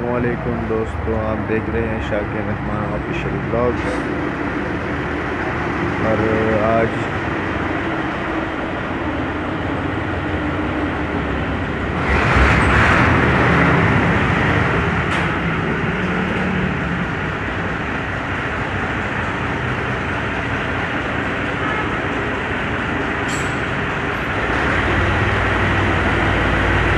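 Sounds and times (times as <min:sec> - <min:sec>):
road traffic noise: 0:00.0 - 0:26.9.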